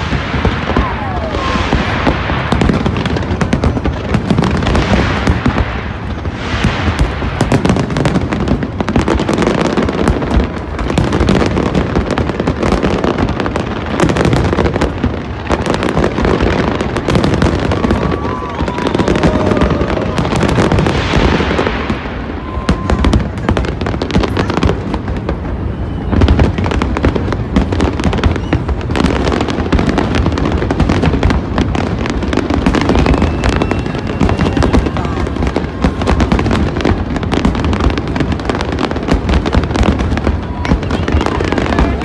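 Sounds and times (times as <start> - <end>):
fireworks exploding: 0.0 - 42.0.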